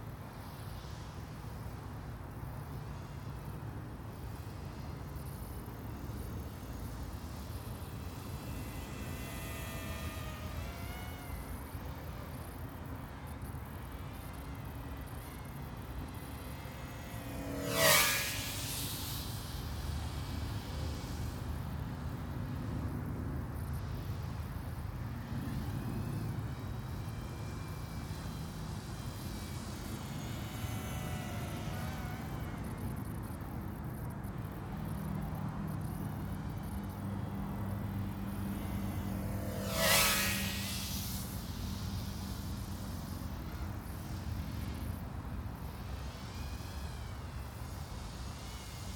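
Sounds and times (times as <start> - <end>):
distant drone whine: 0.0 - 48.9
quadcopter motor whine passing: 0.0 - 48.9.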